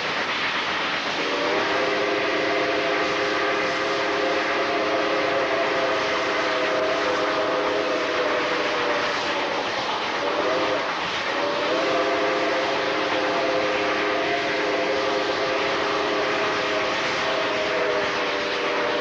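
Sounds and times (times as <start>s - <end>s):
train running noise: 0.0s - 19.0s
steam locomotive chime whistle: 1.1s - 19.0s.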